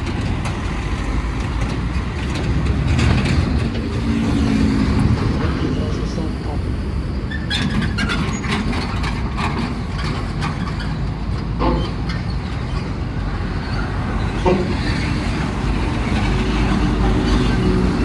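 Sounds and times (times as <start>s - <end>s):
diesel truck engine rumbling: 0.0s - 18.0s.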